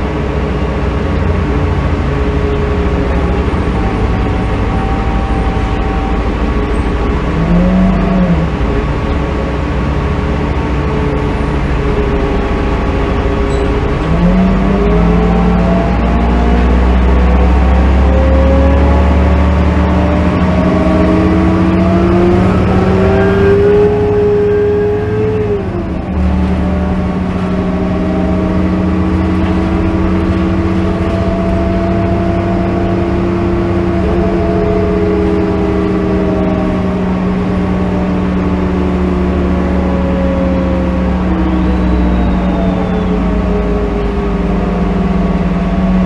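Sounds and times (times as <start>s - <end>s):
bus engine whine: 0.0s - 46.0s.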